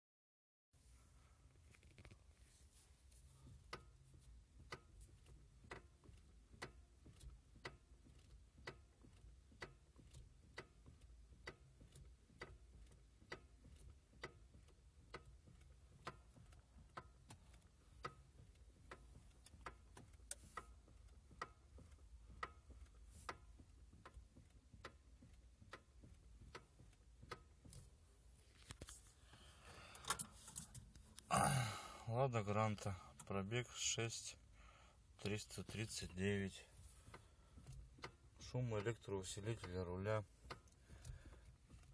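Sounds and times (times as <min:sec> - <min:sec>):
low steady hum: 0:00.8 - 0:41.9.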